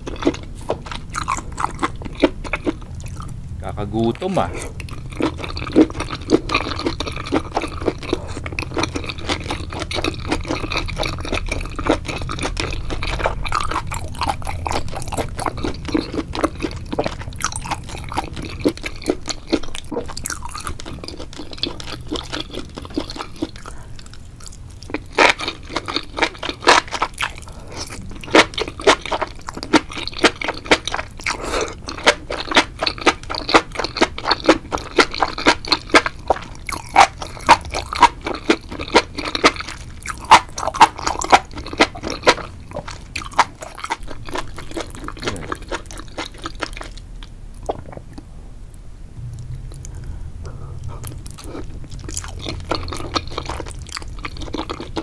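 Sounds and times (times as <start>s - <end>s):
wet chewing and crunching: 0.0s - 48.3s, 49.4s - 55.0s.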